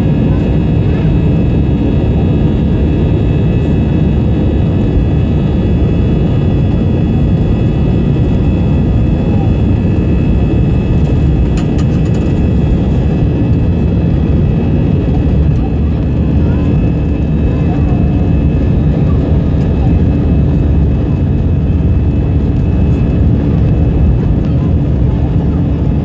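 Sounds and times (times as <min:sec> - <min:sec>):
high fan whine: 0:00.0 - 0:26.0
jet engine roar in cabin: 0:00.0 - 0:26.0.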